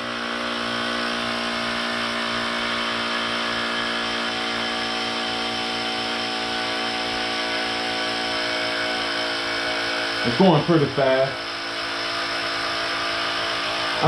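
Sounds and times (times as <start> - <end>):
electric air pump running: 0.0 - 14.0.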